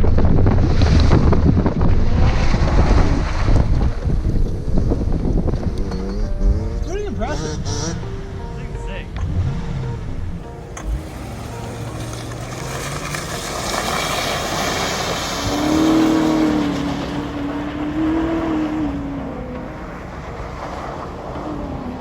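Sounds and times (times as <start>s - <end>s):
car engine revving under load: 0.0s - 22.0s.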